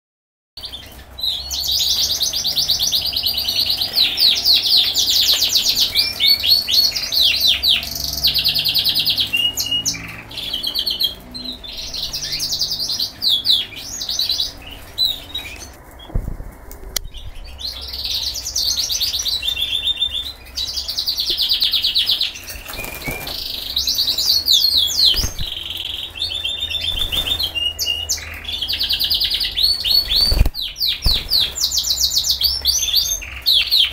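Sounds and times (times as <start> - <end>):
canaries singing trills: 0.6 - 33.9.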